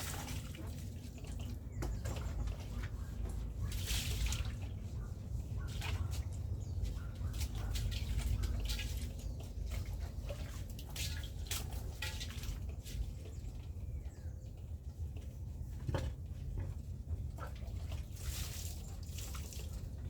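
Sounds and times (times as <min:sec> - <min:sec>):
water splashing and dripping: 0:00.0 - 0:13.7, 0:16.6 - 0:20.0.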